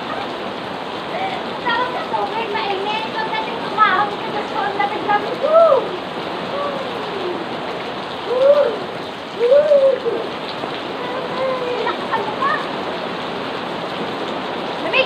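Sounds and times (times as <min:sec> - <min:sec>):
heavy rain on pool: 0:00.0 - 0:15.0.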